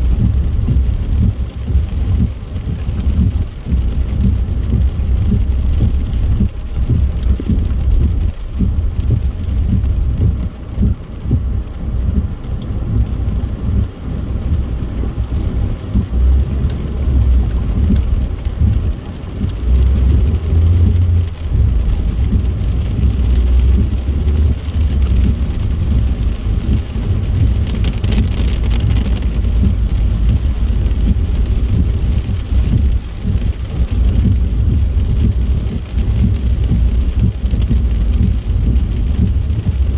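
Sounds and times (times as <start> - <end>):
rain and spray hiss: 0.0 - 39.9
tyre and road noise: 0.0 - 39.9.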